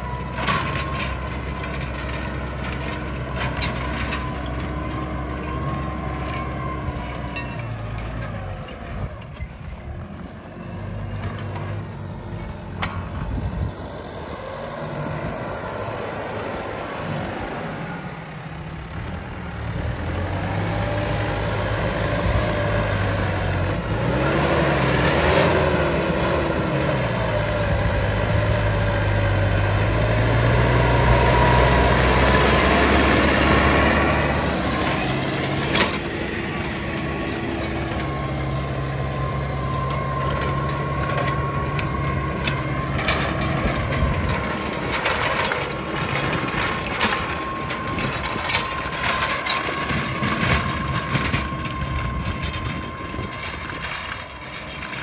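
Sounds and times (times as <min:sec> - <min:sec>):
diesel tractor engine under load: 0:00.0 - 0:55.0.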